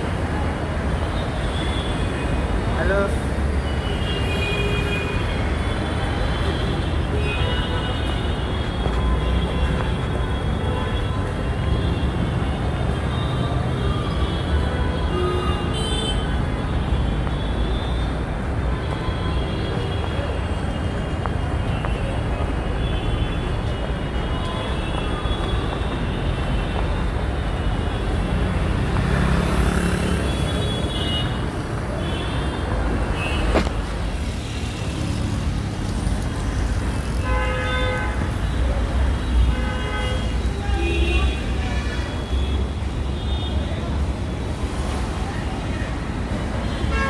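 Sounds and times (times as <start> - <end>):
city street traffic: 0.0 - 47.0.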